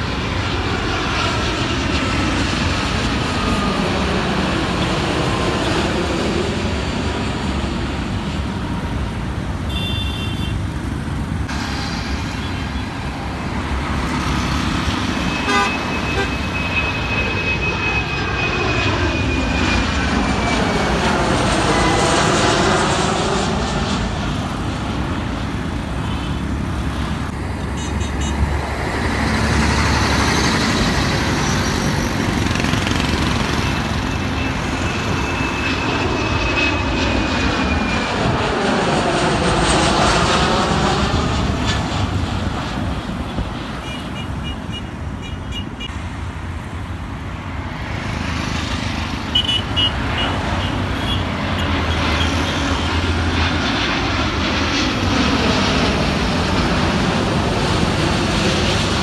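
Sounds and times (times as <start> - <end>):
jet airliner passing overhead: 0.0 - 59.0
jet engine high whine: 0.0 - 59.0
road traffic: 0.0 - 59.0.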